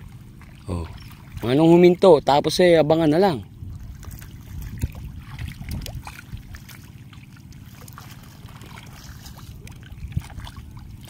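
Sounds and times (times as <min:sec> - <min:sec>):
faint splashes and ticks: 0:00.0 - 0:11.0
shallow water trickling: 0:00.0 - 0:11.0
steady low rumble: 0:00.0 - 0:11.0.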